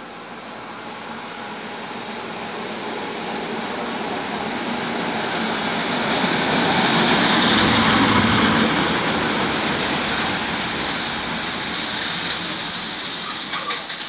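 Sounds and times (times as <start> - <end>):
electric train passing: 0.0 - 14.0
rumble of train wheels: 0.0 - 14.0.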